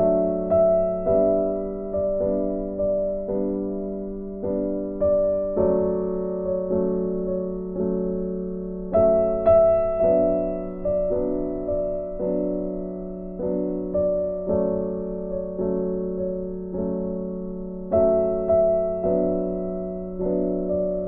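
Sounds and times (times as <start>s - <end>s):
slow piano notes and chords: 0.0s - 21.0s.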